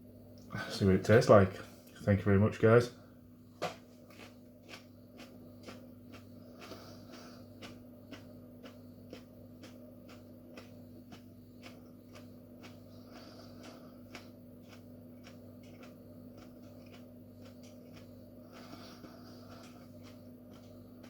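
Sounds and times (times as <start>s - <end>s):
low electrical hum: 0.0s - 21.0s
person chewing: 4.0s - 21.0s.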